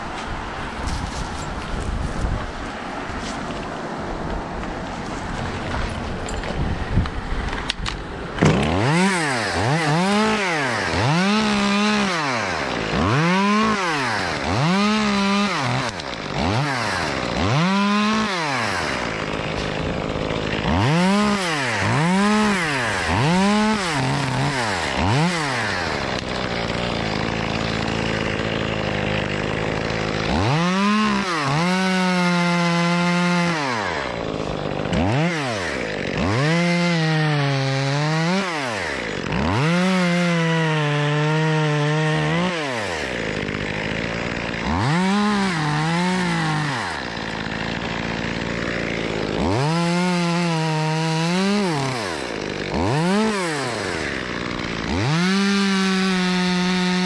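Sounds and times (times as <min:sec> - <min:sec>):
chainsaw revving: 0:05.2 - 0:57.0.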